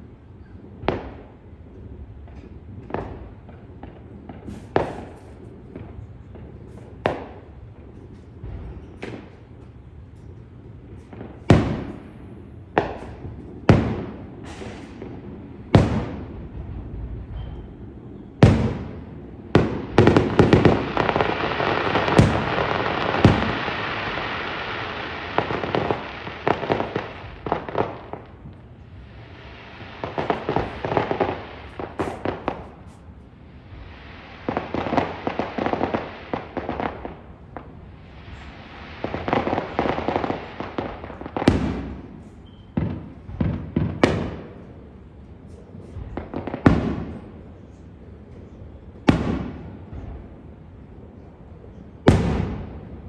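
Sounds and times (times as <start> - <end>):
firework bangs: 0.0 - 51.0, 51.8 - 53.0
fireworks crackling and popping: 0.0 - 53.0.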